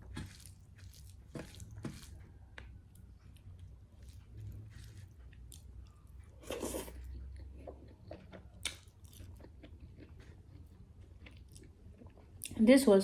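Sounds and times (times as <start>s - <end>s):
chewing and biting food: 0.0s - 12.6s.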